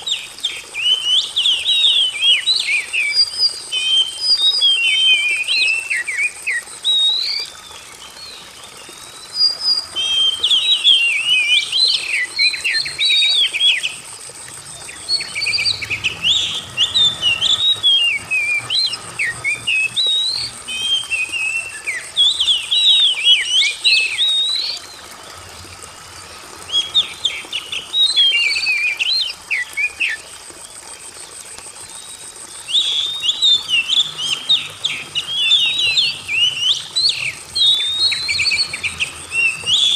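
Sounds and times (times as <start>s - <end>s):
bird singing whistled phrases: 0.0s - 14.0s, 14.9s - 25.0s, 26.7s - 30.2s, 31.8s - 39.9s.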